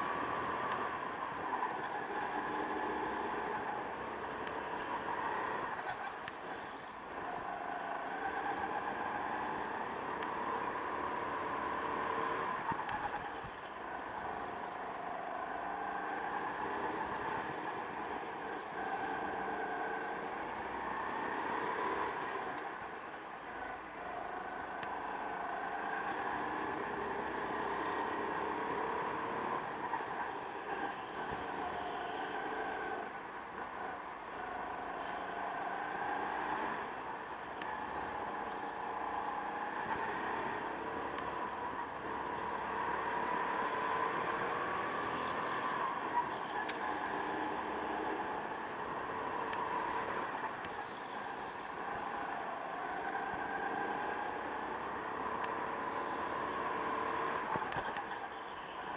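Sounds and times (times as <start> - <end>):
go-kart engine revving: 0.0 - 58.9.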